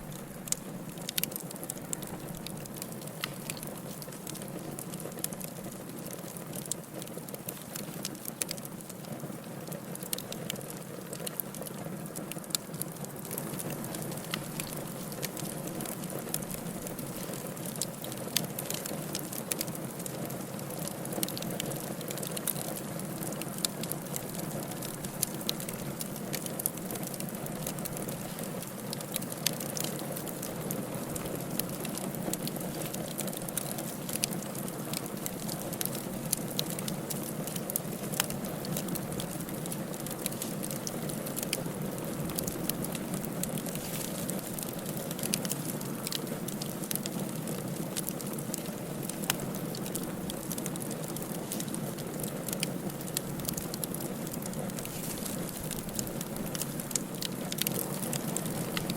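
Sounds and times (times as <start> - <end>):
fire hissing and crackling: 0.0 - 58.9.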